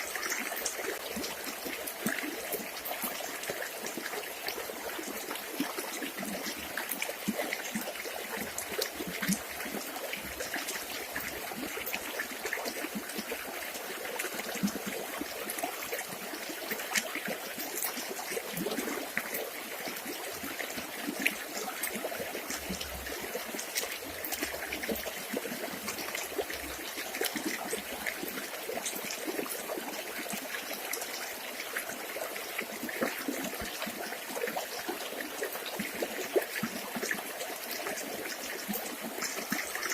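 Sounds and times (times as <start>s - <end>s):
river flowing and trickling: 0.0s - 39.9s
water splashes and drips: 0.0s - 39.9s.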